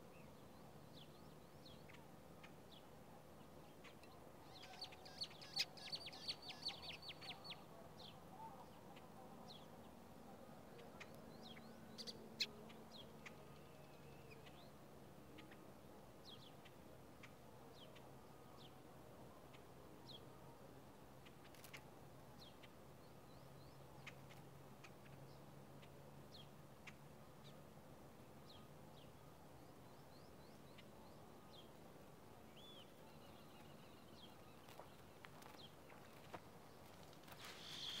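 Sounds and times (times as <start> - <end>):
faint low hum: 0.0 - 38.0
songbirds chirping: 0.0 - 38.0.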